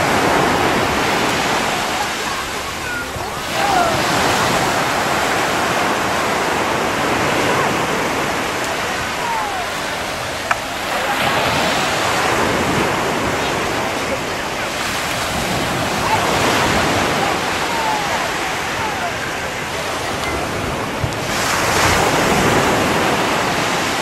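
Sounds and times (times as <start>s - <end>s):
ocean surf breaking: 0.0s - 24.0s.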